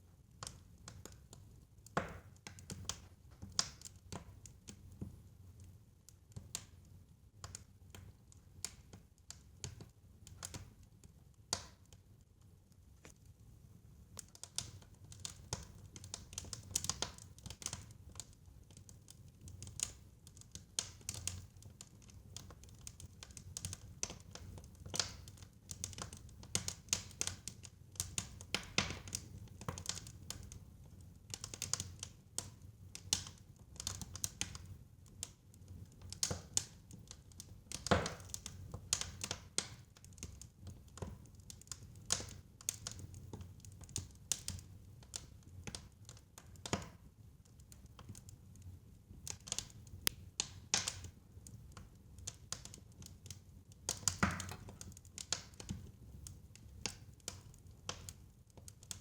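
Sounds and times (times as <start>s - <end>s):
fire crackling and popping: 0.4s - 13.4s, 14.0s - 59.0s.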